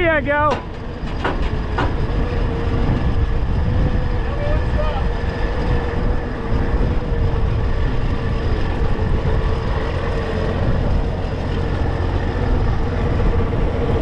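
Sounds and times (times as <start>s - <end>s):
truck engine running: 0.0s - 14.0s
wind buffeting microphone: 0.0s - 14.0s.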